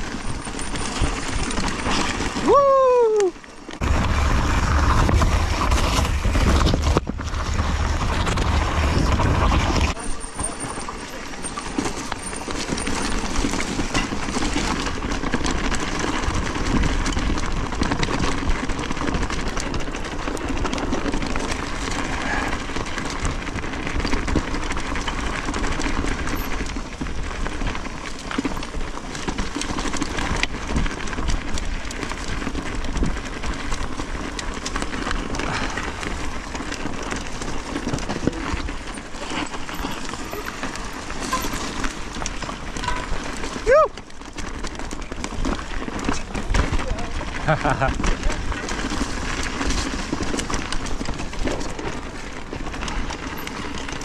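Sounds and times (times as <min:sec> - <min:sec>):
bike rattling over bumps: 0:00.0 - 0:54.0
bike tyres rolling on dirt: 0:00.0 - 0:54.0.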